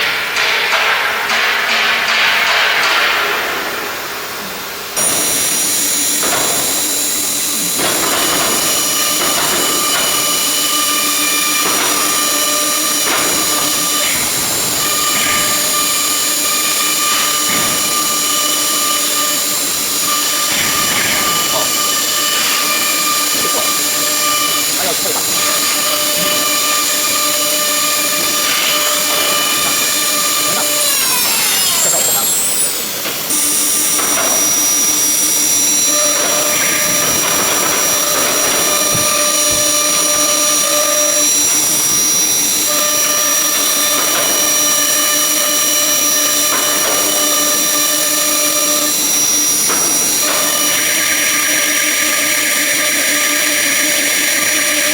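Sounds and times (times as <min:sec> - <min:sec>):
machine noise: 0:00.0 - 0:54.9
router spindle whine: 0:04.9 - 0:54.9
steady tones: 0:05.0 - 0:54.9.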